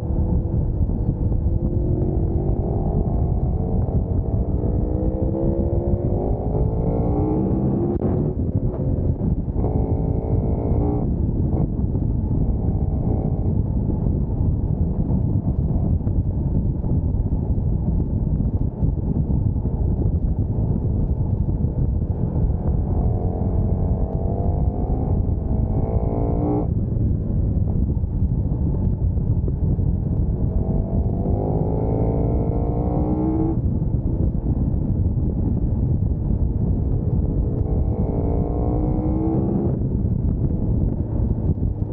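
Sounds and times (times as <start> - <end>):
motorcycle engine accelerating: 0.0 - 41.9
wind rumble on microphone: 0.0 - 41.9.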